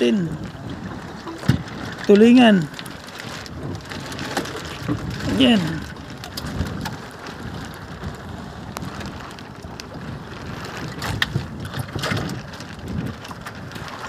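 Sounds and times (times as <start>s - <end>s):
water sloshing around boat: 0.0s - 14.0s
wind buffeting microphone: 0.0s - 14.0s.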